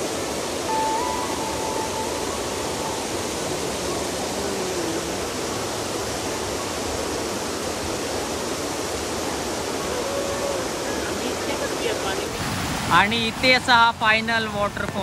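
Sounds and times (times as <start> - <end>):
stream pouring over rocks: 0.0 - 15.0
waterfall rushing: 0.0 - 15.0.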